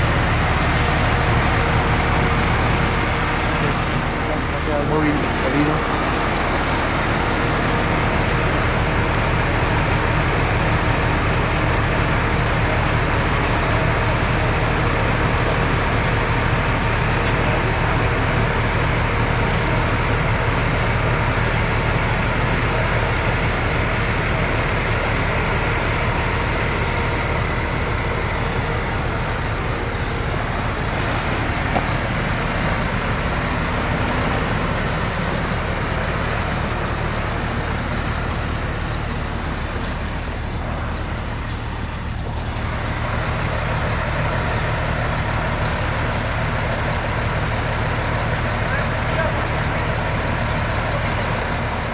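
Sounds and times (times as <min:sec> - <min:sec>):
vehicle engine humming steadily: 0:00.0 - 0:51.9.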